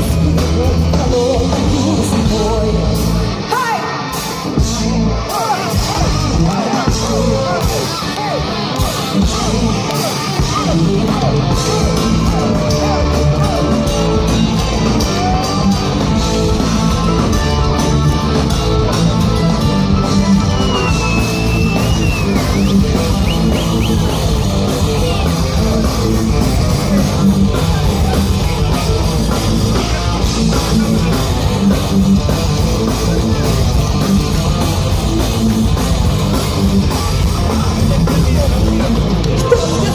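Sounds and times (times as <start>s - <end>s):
distorted electric guitars: 0.0s - 39.9s
drum kit beat: 4.2s - 39.9s
lead melody line: 6.9s - 39.9s.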